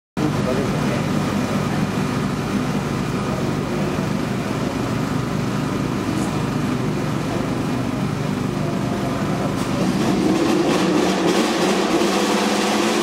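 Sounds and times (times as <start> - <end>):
racing car engine idling: 0.2 - 13.0.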